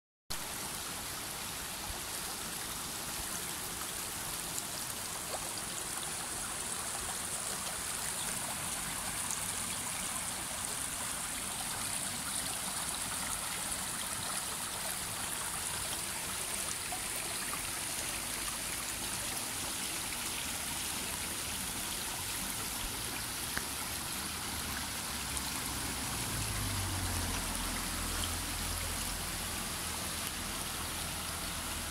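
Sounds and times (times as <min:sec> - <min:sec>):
stream running over stones: 0:00.3 - 0:31.9.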